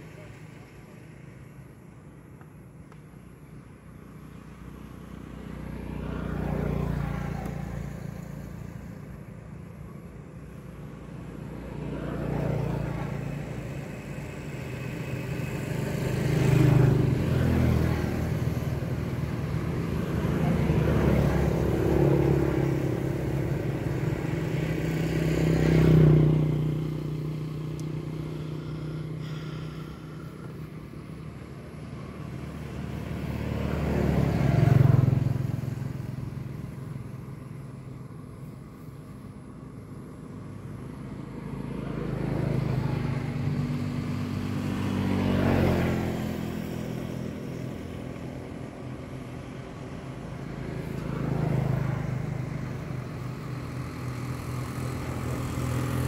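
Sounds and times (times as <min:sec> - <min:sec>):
motor vehicles passing by: 0:00.0 - 0:56.0.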